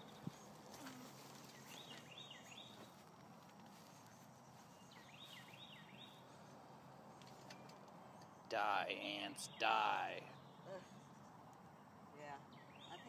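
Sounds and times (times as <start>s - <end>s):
faint bird song: 0.0s - 13.0s.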